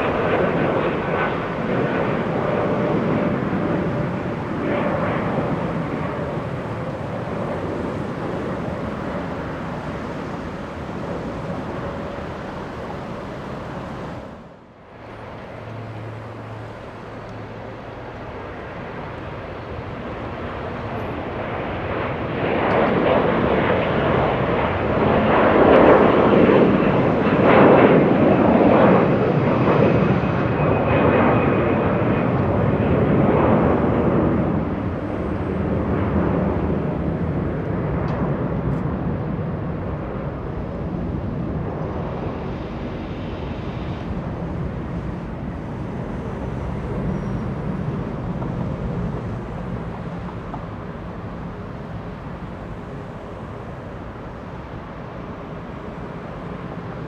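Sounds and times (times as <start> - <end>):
jet engines roaring past: 0.0 - 57.0.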